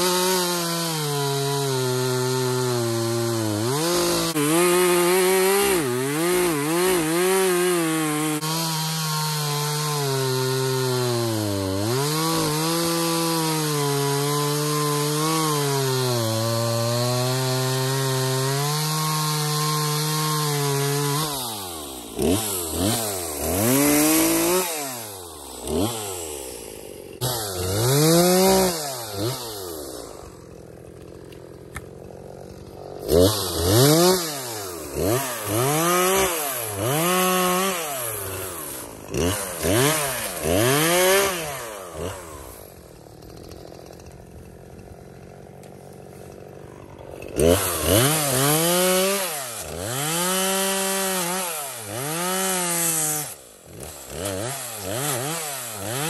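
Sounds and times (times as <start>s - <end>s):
chainsaw cutting log: 0.0s - 56.0s
chainsaw revving: 0.0s - 56.0s.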